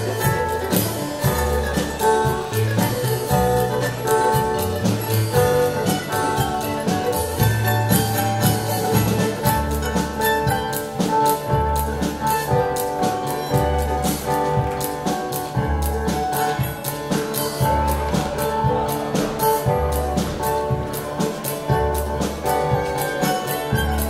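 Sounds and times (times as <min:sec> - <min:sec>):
live dance band playing: 0:00.0 - 0:24.0.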